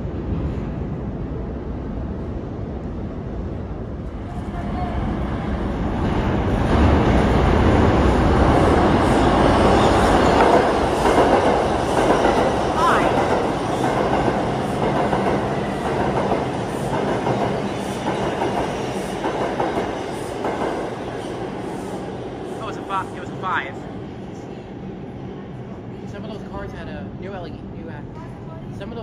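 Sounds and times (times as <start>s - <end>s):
subway train rumbling past: 0.0s - 29.0s.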